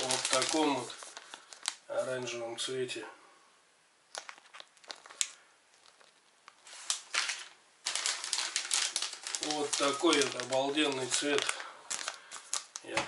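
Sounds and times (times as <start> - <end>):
plastic packets crinkling: 0.0 - 2.4, 4.1 - 13.0.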